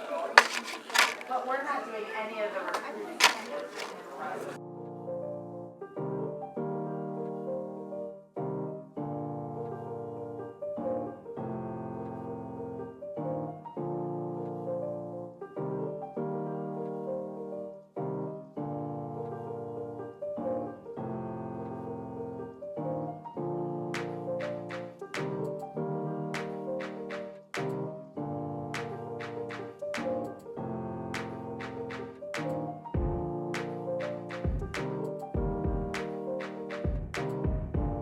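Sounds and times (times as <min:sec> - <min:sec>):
piano playing sustained chords: 0:04.6 - 0:36.9.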